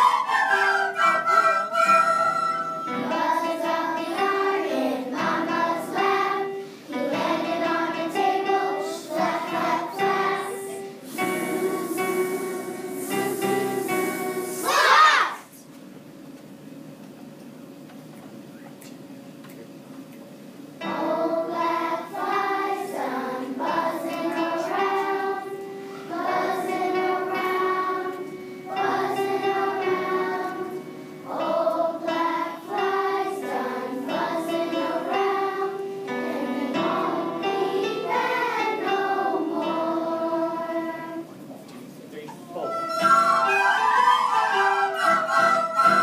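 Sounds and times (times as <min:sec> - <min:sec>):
children's choir singing: 0:00.0 - 0:15.5, 0:20.8 - 0:41.5, 0:42.5 - 0:46.0.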